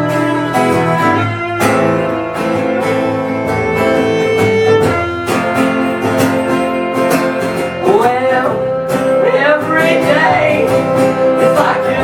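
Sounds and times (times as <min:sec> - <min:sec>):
guitar strumming: 0:00.0 - 0:12.0
sliding melodic line: 0:00.0 - 0:12.0.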